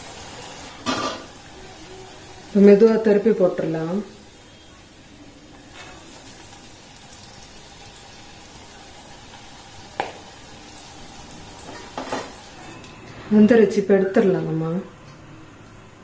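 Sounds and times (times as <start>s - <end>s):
food sizzling in hot oil: 0.0s - 13.9s.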